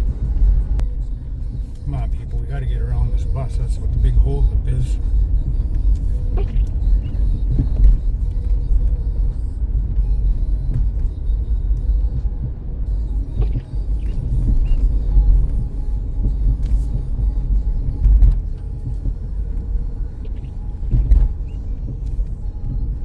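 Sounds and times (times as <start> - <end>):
car engine rumble: 0.0 - 23.0.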